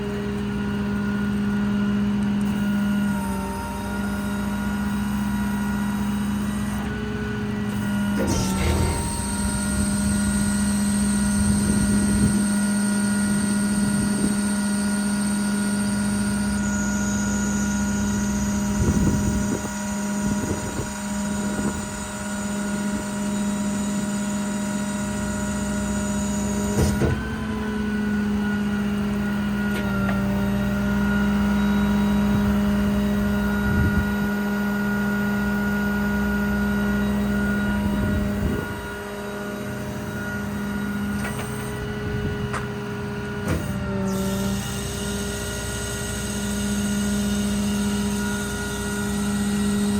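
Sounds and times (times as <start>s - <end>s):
machinery humming drone: 0.0s - 49.9s.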